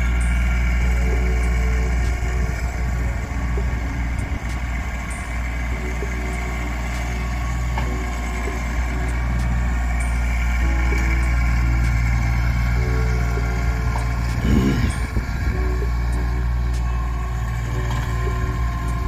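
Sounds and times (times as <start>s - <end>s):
tractor diesel engine humming: 0.0s - 19.0s.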